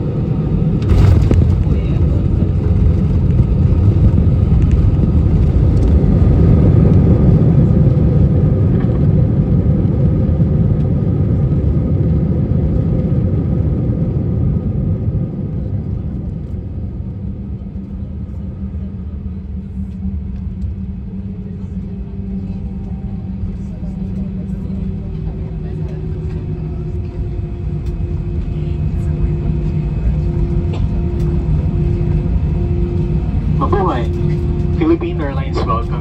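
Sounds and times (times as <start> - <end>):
airliner cabin engine roar: 0.0 - 36.0.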